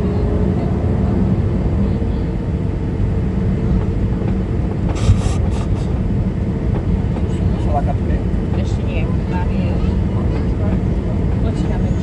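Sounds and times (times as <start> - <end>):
aircraft engines idling rumble: 0.0 - 12.0.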